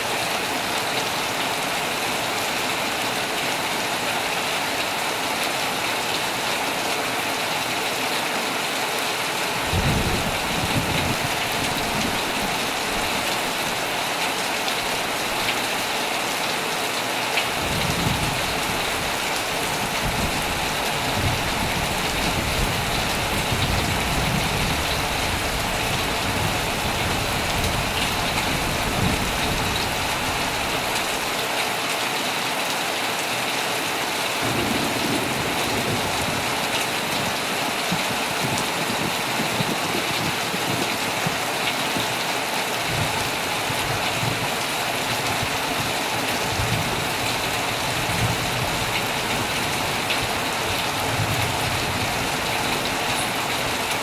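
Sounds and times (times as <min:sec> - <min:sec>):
heavy rain on a tent: 0:00.0 - 0:54.0.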